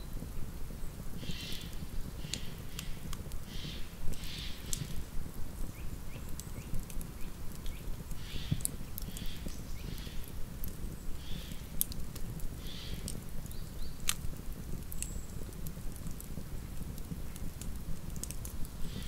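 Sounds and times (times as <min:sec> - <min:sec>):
wood crackling and popping: 0:00.2 - 0:19.0
campfire flames rushing: 0:00.3 - 0:19.0.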